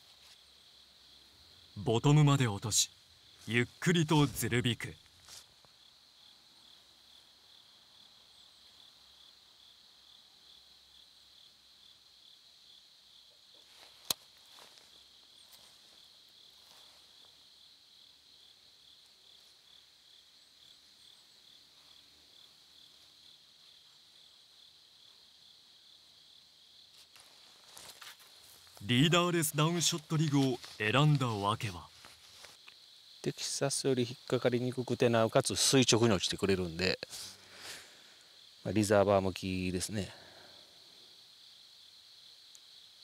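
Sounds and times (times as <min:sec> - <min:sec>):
insects chirping: 0:00.0 - 0:43.0.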